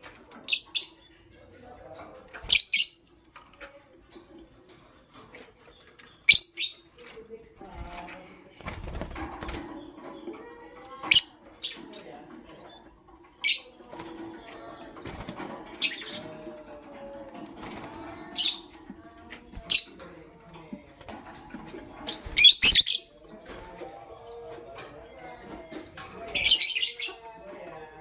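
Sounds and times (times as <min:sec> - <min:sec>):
lovebird chirping: 0:00.0 - 0:28.0.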